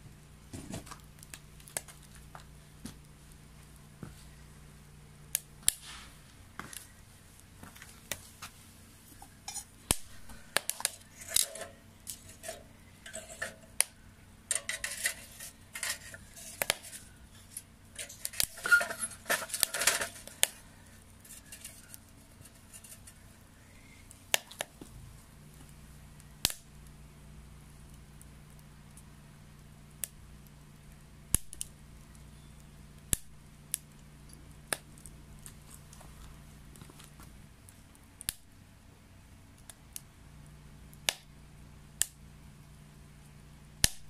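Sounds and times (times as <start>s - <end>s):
wet firewood crackling and popping: 0.0s - 44.0s.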